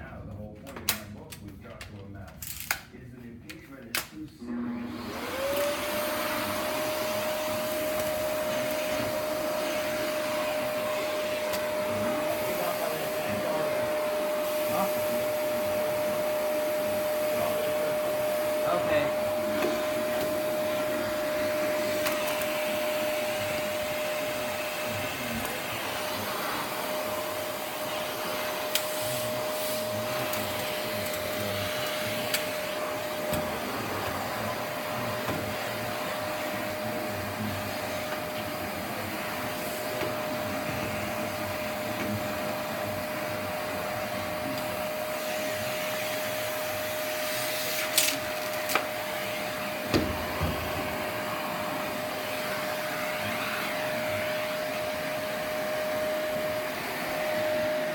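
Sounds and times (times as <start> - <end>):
vacuum cleaner whining: 3.5 - 57.9.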